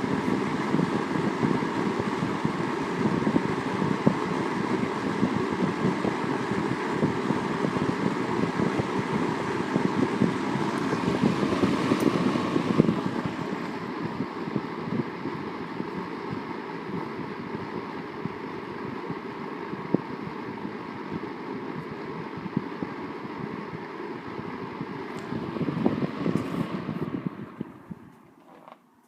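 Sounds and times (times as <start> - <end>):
box fan running: 0.0 - 29.0.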